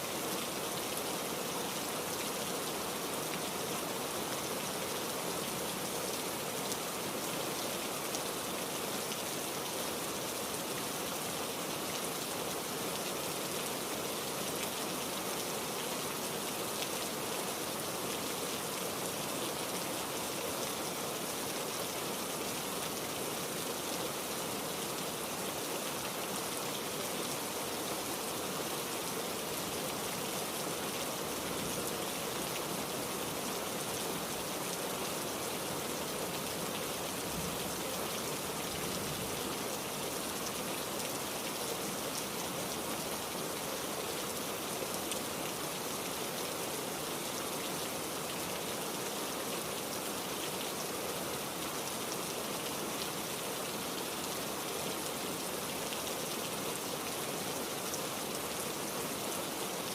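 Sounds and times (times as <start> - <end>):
heavy rain falling: 0.1 - 59.9.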